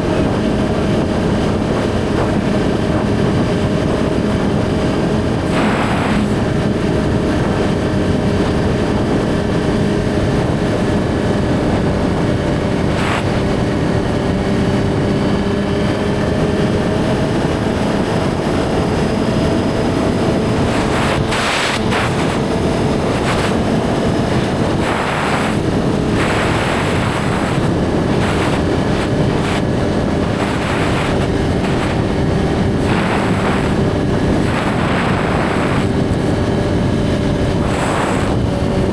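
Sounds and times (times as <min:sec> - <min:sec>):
motorcycle engine cruising: 0:00.0 - 0:38.9
wind noise on microphone: 0:00.0 - 0:38.9.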